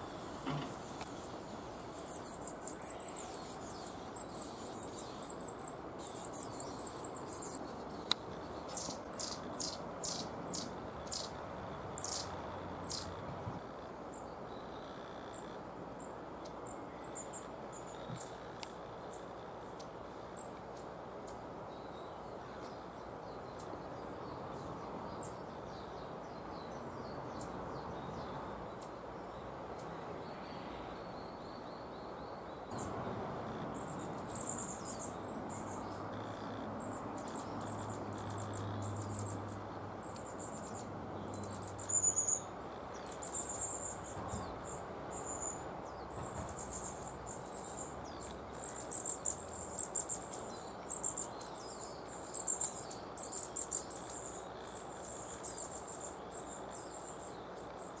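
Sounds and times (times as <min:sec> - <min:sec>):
long-tailed tits calling: 0:00.0 - 0:58.0.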